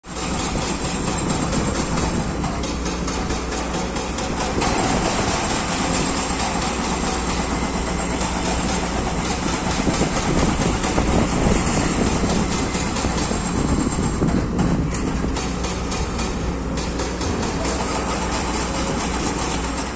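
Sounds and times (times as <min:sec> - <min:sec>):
excavator running: 0:00.0 - 0:19.9.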